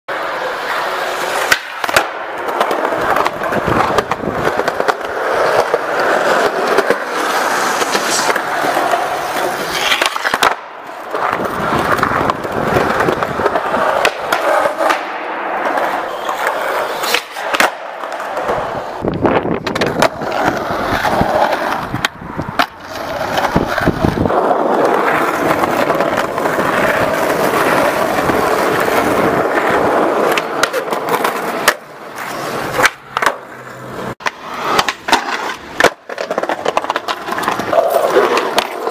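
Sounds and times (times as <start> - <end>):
skateboard clacking: 0.1 - 38.9
skateboard wheels rolling on concrete: 0.1 - 38.9.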